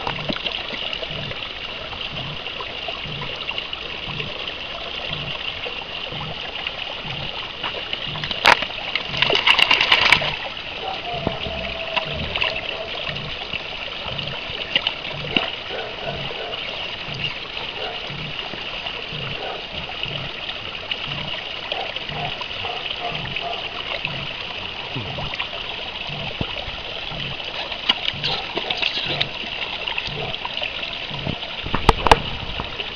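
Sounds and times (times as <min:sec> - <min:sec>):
pool water splashing: 0:00.0 - 0:32.9.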